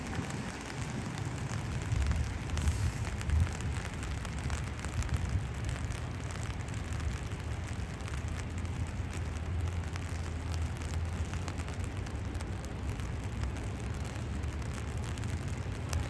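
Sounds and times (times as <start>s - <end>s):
low steady rumble: 0.0s - 16.0s
steady rain falling: 0.0s - 16.0s.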